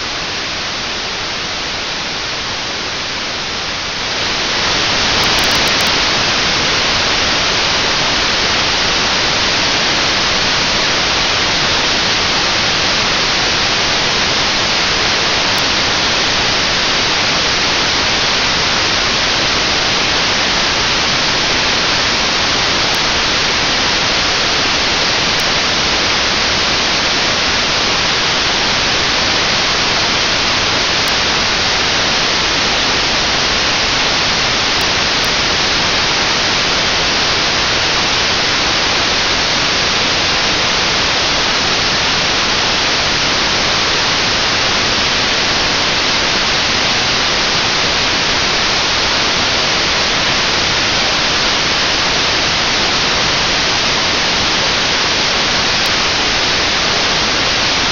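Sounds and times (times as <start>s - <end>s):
radio static hiss: 0.1s - 57.9s.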